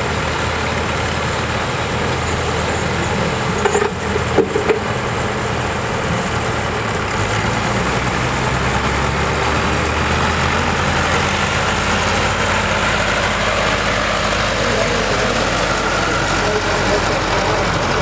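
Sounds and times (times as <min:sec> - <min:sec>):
small tractor driving off: 0:00.0 - 0:18.0
tractor engines running: 0:00.0 - 0:18.0.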